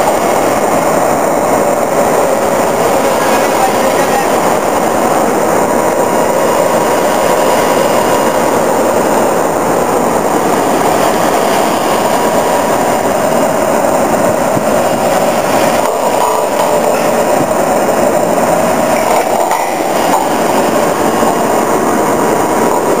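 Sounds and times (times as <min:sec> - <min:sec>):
drilling rig machinery noise: 0:00.0 - 0:23.0.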